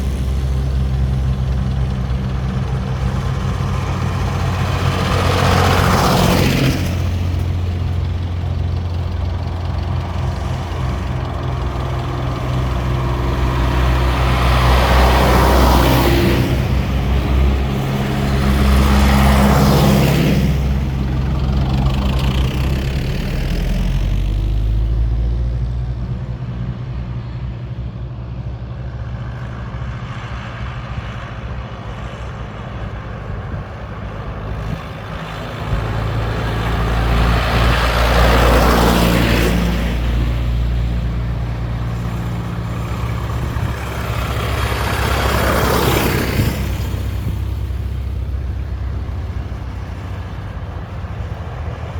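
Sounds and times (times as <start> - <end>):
tractor engines driving past: 0.0 - 51.9.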